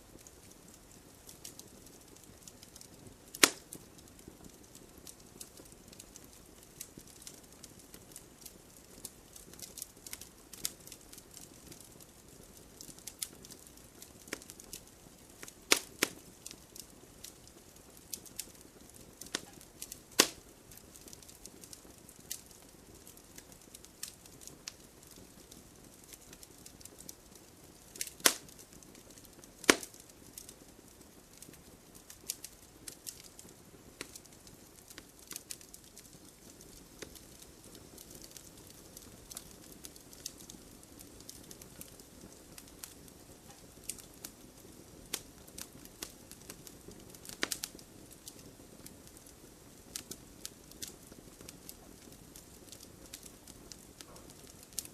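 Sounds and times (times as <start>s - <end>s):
burning logs popping: 0.0s - 54.9s
soft fire hiss: 0.0s - 54.9s
wood fire crackling: 0.0s - 54.9s.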